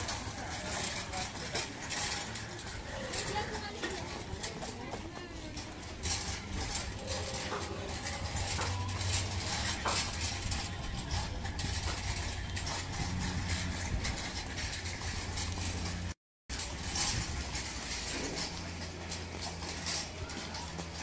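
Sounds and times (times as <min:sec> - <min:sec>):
shopping cart rattling on concrete: 0:00.0 - 0:21.0.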